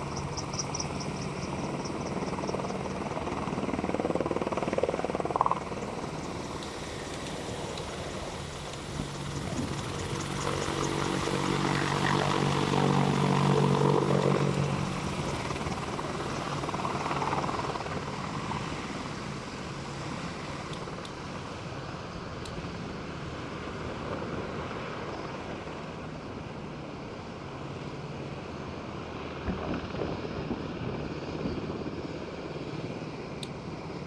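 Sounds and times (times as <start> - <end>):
helicopter flying by: 0.0 - 34.0.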